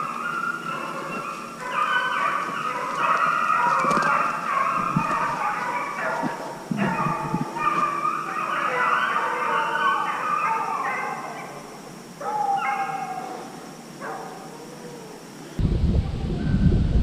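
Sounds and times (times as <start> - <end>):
hounds baying: 0.0 - 15.2.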